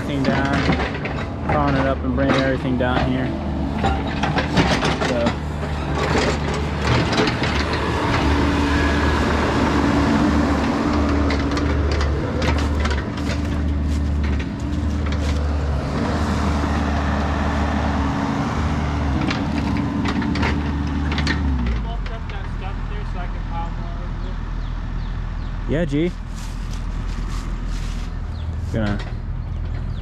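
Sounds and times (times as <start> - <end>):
knocks and clanks: 0.0 - 23.9, 28.2 - 30.0
diesel engine running: 0.0 - 30.0.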